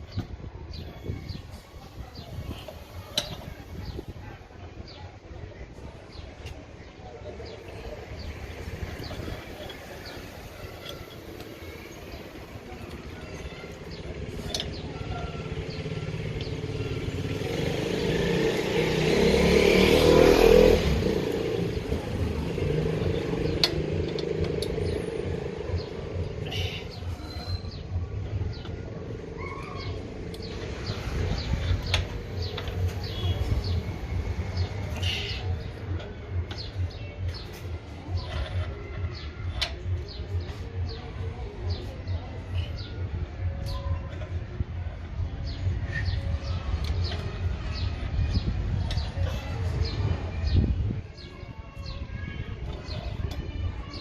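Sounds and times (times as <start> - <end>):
motor vehicle passing: 6.8 - 54.0.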